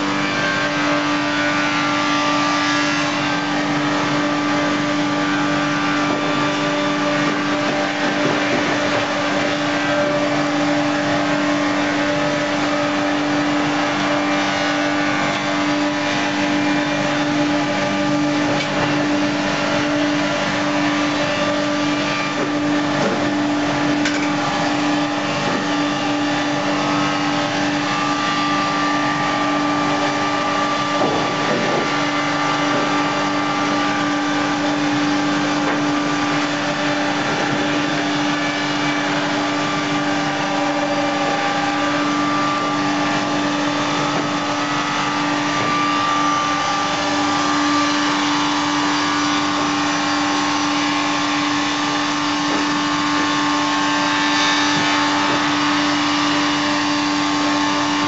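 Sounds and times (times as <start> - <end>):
sawmill machinery humming and whining: 0.0 - 58.0.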